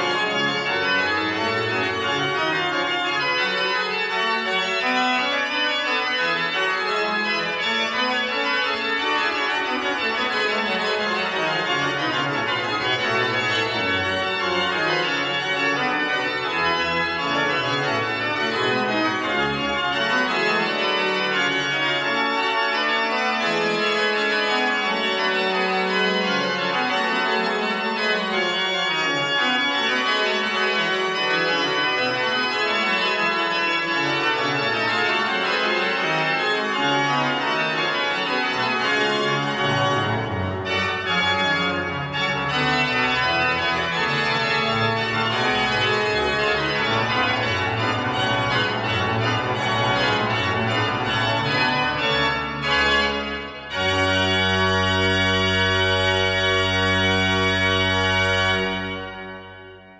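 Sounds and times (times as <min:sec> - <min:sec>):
pipe organ playing: 0:00.0 - 0:59.9.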